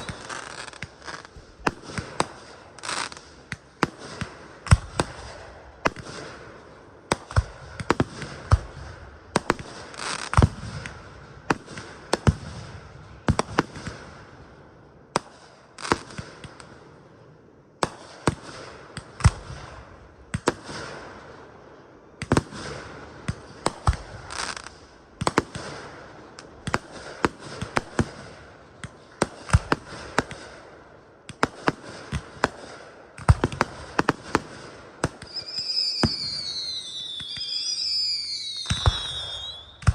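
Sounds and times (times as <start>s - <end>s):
fireworks bursting: 0.0s - 14.4s, 17.8s - 39.9s
fireworks crackle and rumble: 0.0s - 39.9s.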